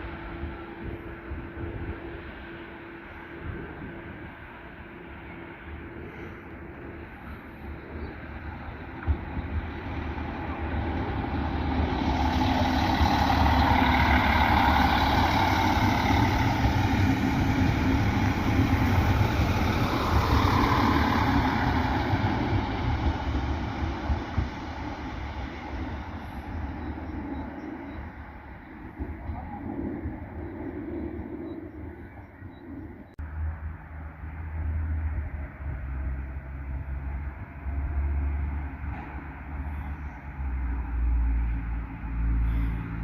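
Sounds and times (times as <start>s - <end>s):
train passing on rails: 0.0s - 43.0s.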